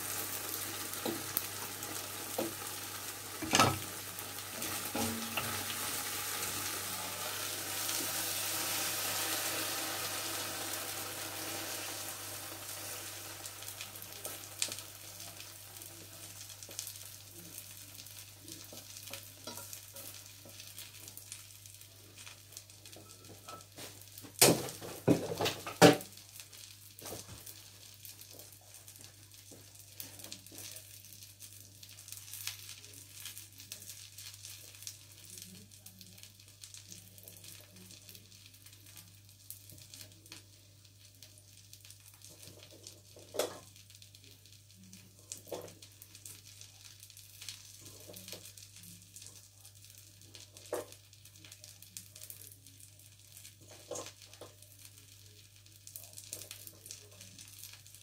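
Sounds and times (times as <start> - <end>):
frying oil sizzling: 0.0 - 58.0.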